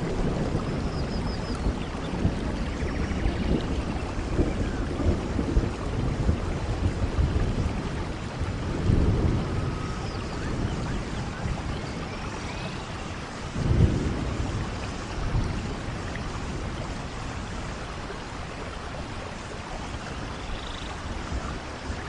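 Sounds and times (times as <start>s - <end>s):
low thunder rumbles: 0.0s - 22.0s
steady rain falling: 0.0s - 22.0s.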